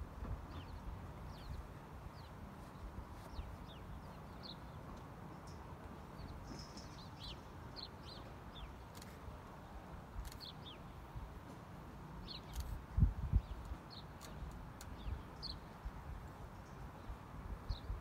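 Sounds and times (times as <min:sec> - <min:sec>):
small birds chirping: 0:00.5 - 0:09.2, 0:10.2 - 0:11.1, 0:12.1 - 0:18.0.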